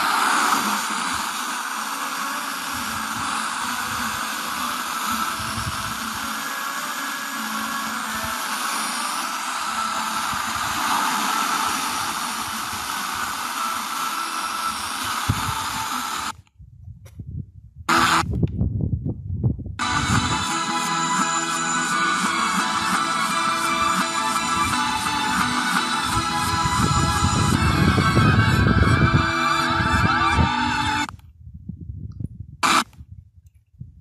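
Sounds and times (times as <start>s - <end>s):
radio station audio: 0.0s - 16.3s, 17.9s - 18.2s, 19.8s - 31.1s, 32.6s - 32.9s
radio static hiss: 0.0s - 16.4s, 17.9s - 18.3s, 19.8s - 31.1s, 32.6s - 33.0s.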